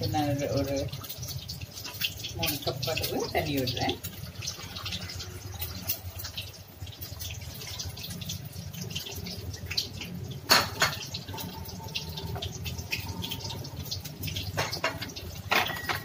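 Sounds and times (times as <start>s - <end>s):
curry sloshing and dripping: 0.0s - 16.0s.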